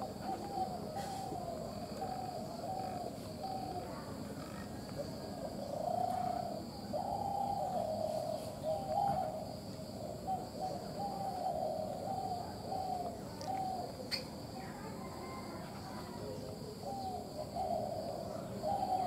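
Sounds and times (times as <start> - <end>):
bird hooting: 0.0 - 19.0.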